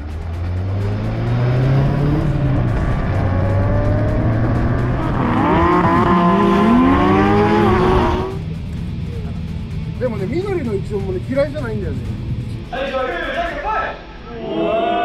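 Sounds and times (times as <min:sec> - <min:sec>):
turbocharged engine accelerating: 0:00.0 - 0:12.6.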